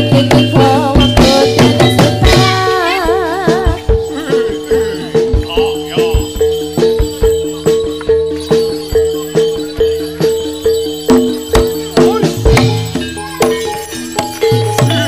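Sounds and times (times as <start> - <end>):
drum strokes: 0.0 - 15.0
gamelan music: 0.0 - 15.0.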